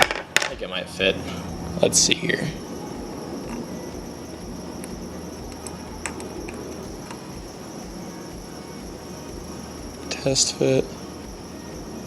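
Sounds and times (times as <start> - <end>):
high-pitched whine and hiss: 0.0 - 12.0.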